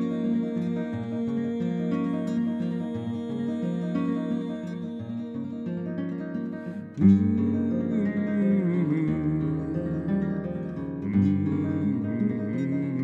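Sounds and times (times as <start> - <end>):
classical guitar playing: 0.0 - 13.0.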